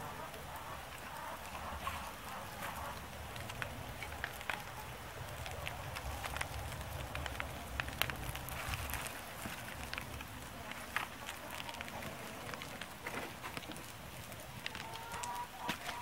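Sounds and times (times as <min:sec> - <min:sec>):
soft hiss of fire: 0:00.0 - 0:16.0
wood fire crackling and popping: 0:00.0 - 0:16.0.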